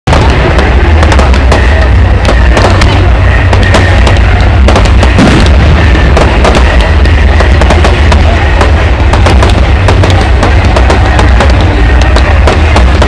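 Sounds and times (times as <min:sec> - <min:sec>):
fireworks bangs and crackles: 0:00.1 - 0:13.0
low rumble: 0:00.1 - 0:13.0.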